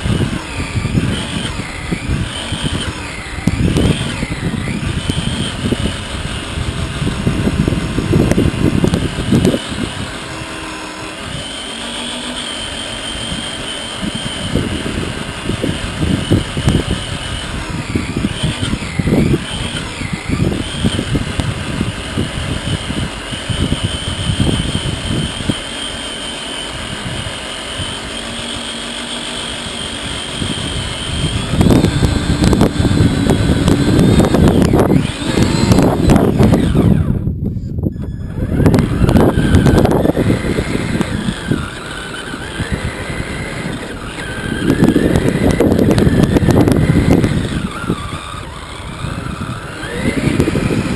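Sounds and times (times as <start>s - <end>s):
electric motor and gears whining: 0.0s - 50.9s
rumble of tyres and suspension: 0.0s - 50.9s.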